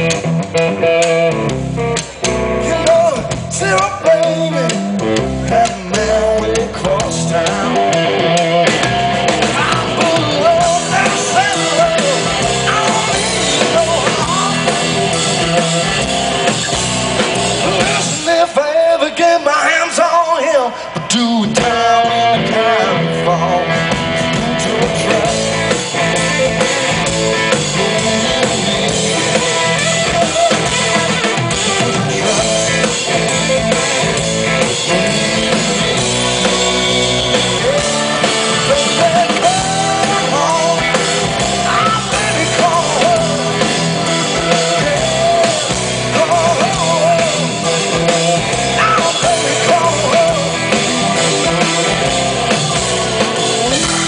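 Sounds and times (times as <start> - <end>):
bending electric guitar lead: 0.0 - 54.0
blues-rock band playing live: 0.0 - 54.0.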